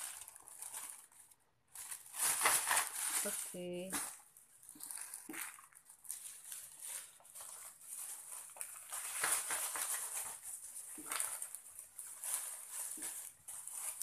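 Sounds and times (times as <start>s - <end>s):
plastic bags rustling: 0.0s - 14.0s.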